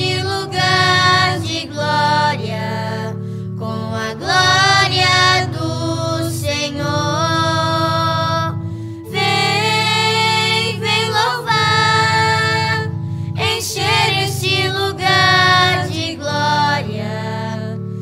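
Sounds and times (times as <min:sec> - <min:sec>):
solo voice singing a hymn: 0:00.0 - 0:17.9
sustained accompaniment chords: 0:00.0 - 0:18.0.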